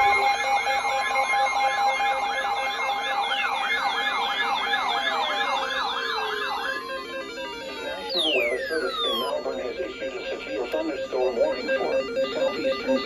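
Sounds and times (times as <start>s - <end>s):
electronic siren warbling: 0.0s - 13.0s.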